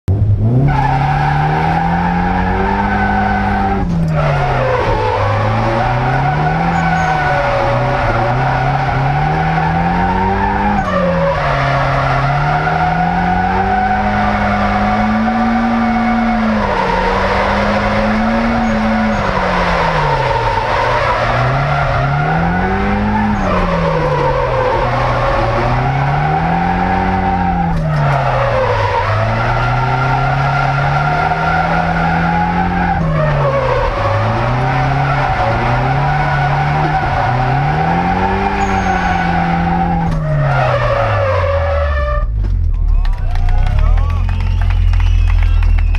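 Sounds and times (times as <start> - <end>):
car engine revving hard: 0.1 - 42.3
tyres squealing: 0.7 - 42.4.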